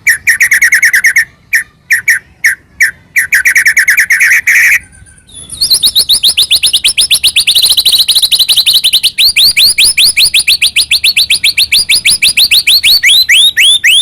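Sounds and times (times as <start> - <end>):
songbird singing trills: 0.0 - 14.0.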